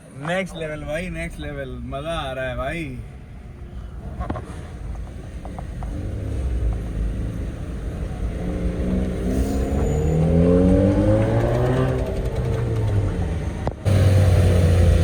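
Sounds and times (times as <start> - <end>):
car exhaust rumble accelerating: 0.0 - 15.0.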